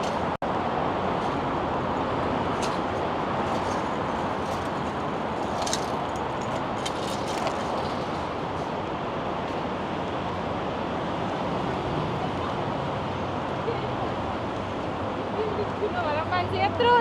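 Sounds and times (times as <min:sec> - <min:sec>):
traffic rushing noise: 0:00.0 - 0:17.0.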